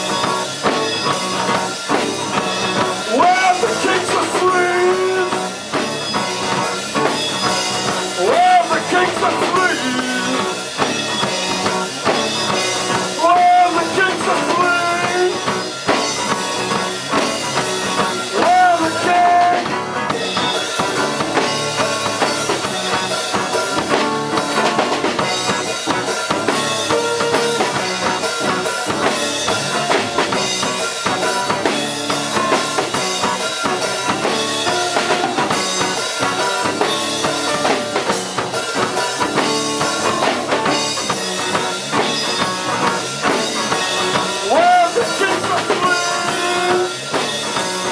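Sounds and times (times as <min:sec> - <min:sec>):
acoustic-electric guitar: 0:00.0 - 0:47.9
drum kit beat: 0:00.0 - 0:47.9
electric bass: 0:00.0 - 0:47.9.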